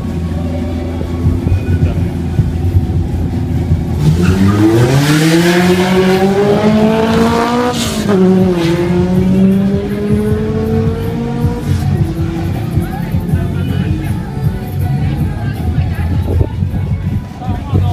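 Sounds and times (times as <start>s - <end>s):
race car engines at full throttle: 0.0s - 17.9s.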